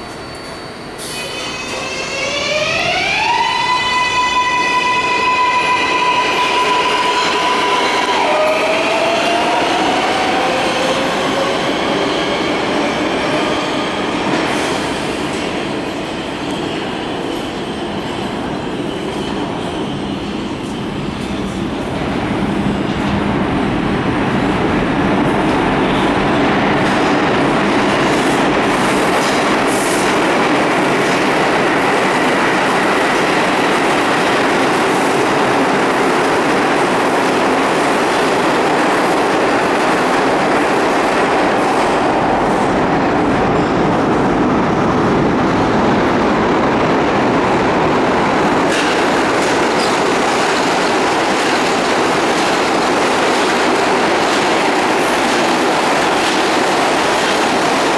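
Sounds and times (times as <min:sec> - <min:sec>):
subway train rumbling: 0:00.0 - 0:57.9.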